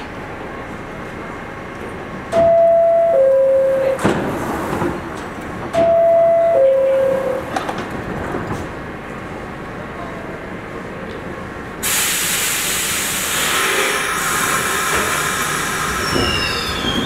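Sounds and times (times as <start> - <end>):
subway car clunks: 0.0 - 9.4, 10.0 - 17.0.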